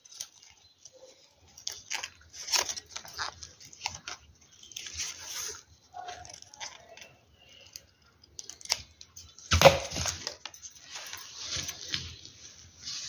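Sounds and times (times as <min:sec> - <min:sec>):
scissors snipping paper: 0:00.0 - 0:11.9
paper crinkling and rustling: 0:00.0 - 0:13.0.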